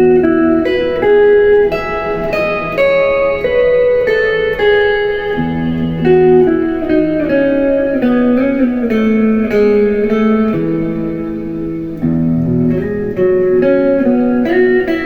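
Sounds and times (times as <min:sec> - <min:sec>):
clean electric guitar melody: 0:00.0 - 0:15.0
low guitar note ringing: 0:00.0 - 0:15.0.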